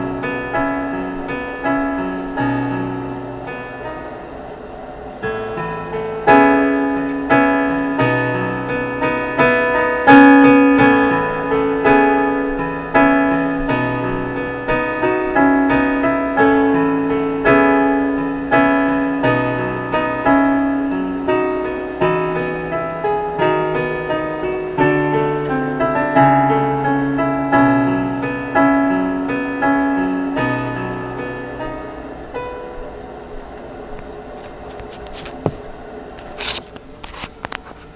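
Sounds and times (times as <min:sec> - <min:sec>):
slow piano music: 0:00.0 - 0:35.0.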